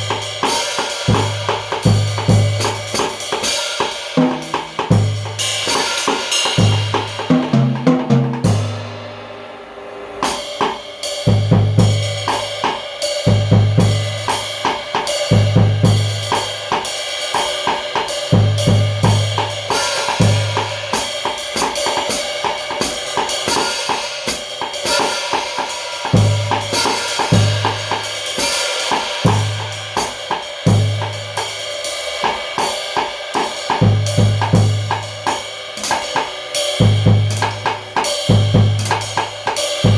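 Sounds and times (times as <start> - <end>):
snare and bass drum strokes: 0.0 - 39.9.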